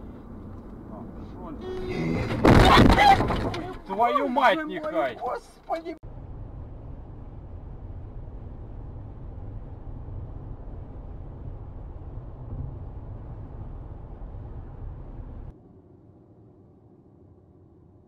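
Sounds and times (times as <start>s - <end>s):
car interior road rumble: 0.0s - 15.6s.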